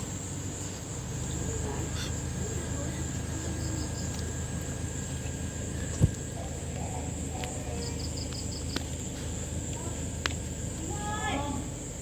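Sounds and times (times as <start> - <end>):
insects trilling: 0.0 - 12.0
low background hum: 0.0 - 12.0.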